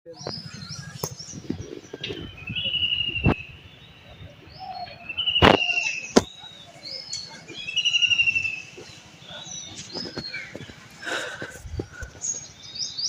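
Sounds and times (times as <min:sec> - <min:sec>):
bird chirps: 0:00.1 - 0:11.1, 0:11.9 - 0:13.0
birds trilling calls: 0:00.1 - 0:13.0.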